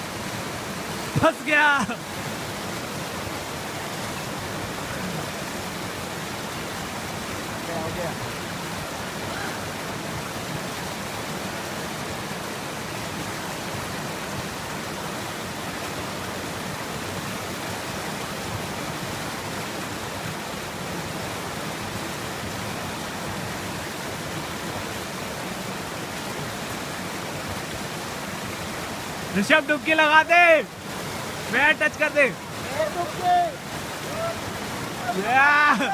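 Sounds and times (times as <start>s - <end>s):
fast-flowing river rushing: 0.0s - 35.9s.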